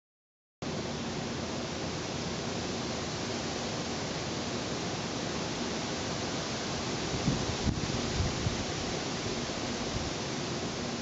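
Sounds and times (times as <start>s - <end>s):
steady hiss: 0.6s - 11.0s.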